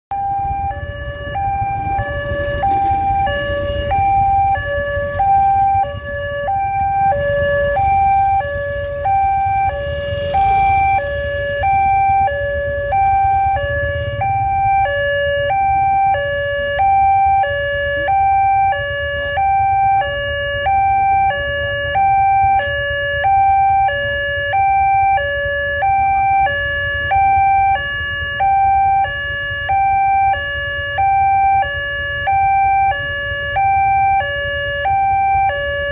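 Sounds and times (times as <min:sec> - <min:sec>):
low engine rumble: 0:00.1 - 0:34.1
level crossing two-tone alarm: 0:00.1 - 0:35.9.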